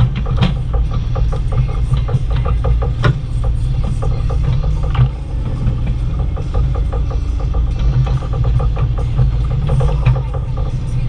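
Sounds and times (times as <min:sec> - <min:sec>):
excavator diesel engine rumbling: 0:00.0 - 0:11.0.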